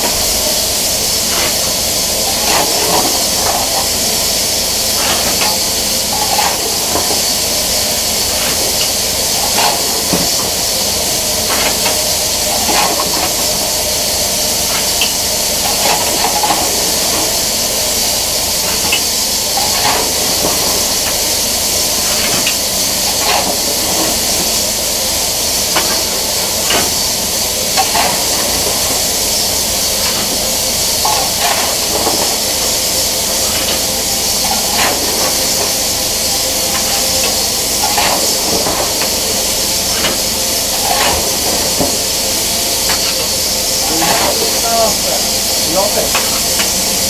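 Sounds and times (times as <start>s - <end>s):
sharp knocks and clanks: 0.0s - 24.7s, 25.6s - 47.0s
loud hiss of steam: 0.0s - 47.0s.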